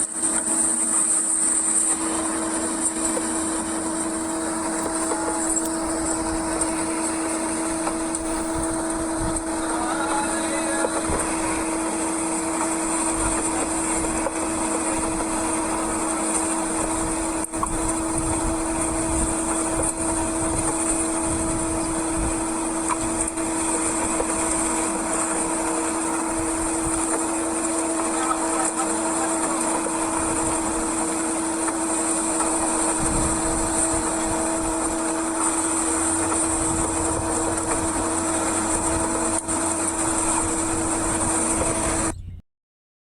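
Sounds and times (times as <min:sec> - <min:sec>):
boat engine humming: 0:00.0 - 0:42.4.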